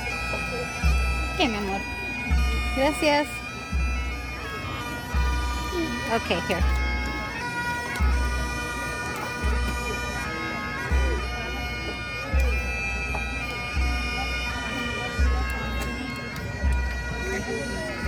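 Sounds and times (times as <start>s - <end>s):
bagpipes playing: 0.0s - 18.0s.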